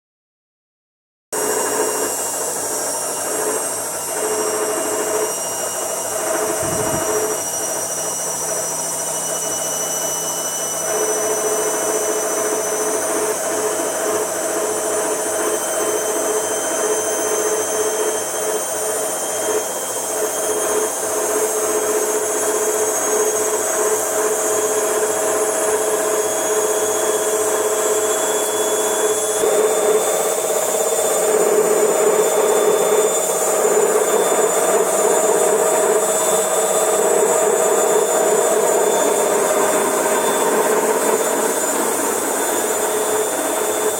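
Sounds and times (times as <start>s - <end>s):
machine motor hum and whine: 1.4s - 43.9s.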